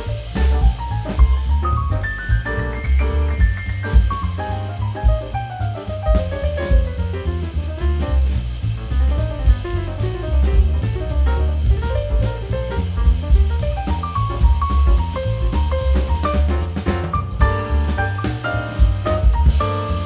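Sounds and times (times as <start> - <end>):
jazz bass: 0.0 - 20.0
jazz drum kit: 0.0 - 20.0.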